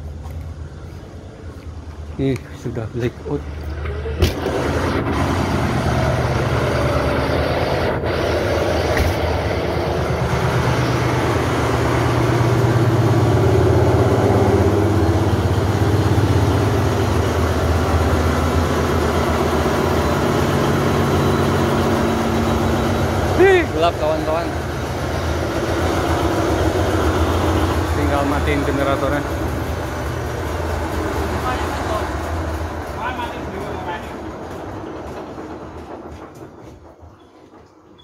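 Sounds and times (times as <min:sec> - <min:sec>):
diesel generator engine drone: 0:00.0 - 0:38.0.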